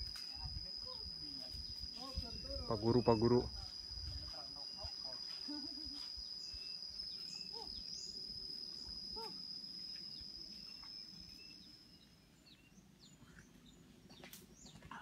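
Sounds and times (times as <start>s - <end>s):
insect buzzing: 0.0s - 12.8s.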